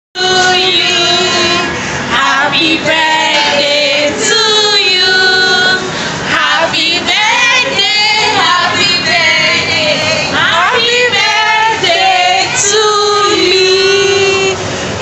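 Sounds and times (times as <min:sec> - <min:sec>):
women singing: 0:00.2 - 0:14.6.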